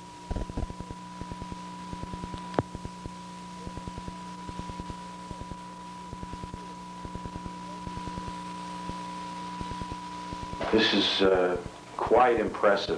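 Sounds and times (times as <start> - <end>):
low hum: 0.0 - 12.6
sine test tone: 0.0 - 12.9.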